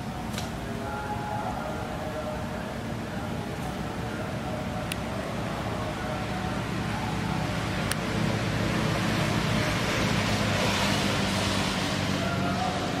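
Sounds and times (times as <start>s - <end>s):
road noise: 0.0s - 13.0s
vehicle engine humming: 0.0s - 13.0s.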